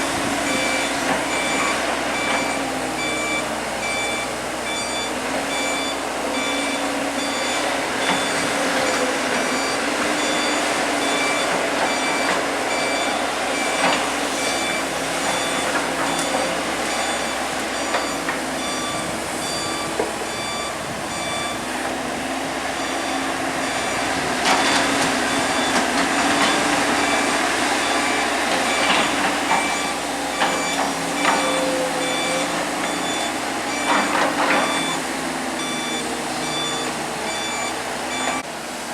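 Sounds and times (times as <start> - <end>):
excavator diesel engine running: 0.0 - 38.9
travel alarm beeping: 0.1 - 38.5.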